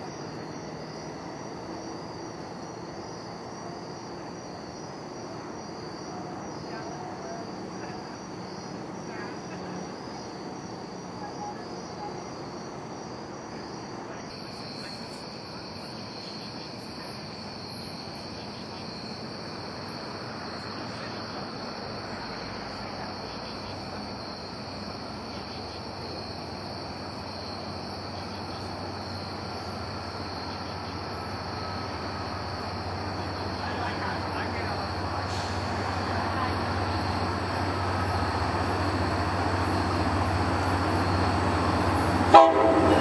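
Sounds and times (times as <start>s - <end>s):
insect chorus trilling: 0.0s - 43.0s
train rumbling: 0.0s - 43.0s.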